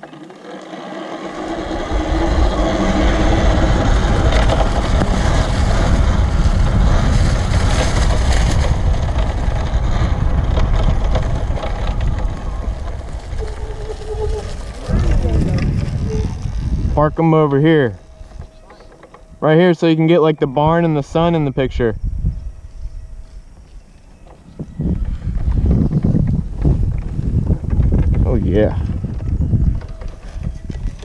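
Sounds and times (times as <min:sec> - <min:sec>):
wind buffeting microphone: 0:01.2 - 0:31.0.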